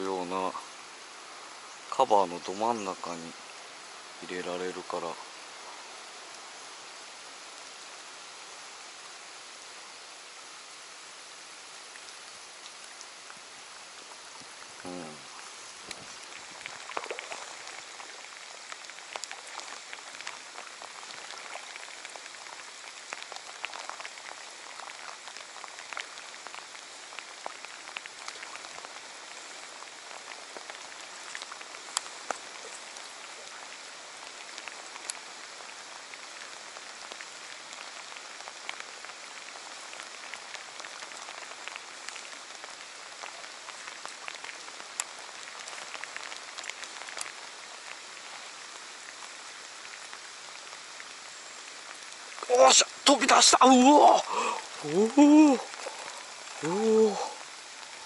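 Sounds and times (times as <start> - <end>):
light rain pattering on water: 0.0 - 58.0.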